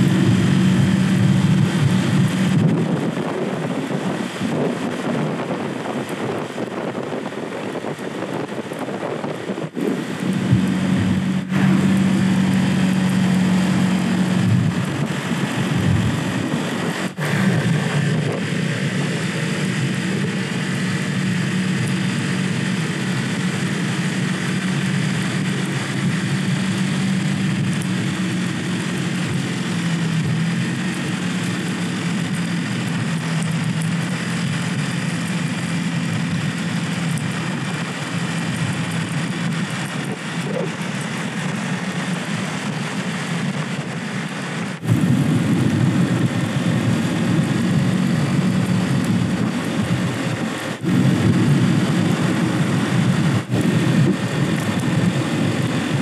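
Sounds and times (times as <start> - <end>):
moped engine running: 0.0 - 56.0
wind and road noise: 0.0 - 56.0.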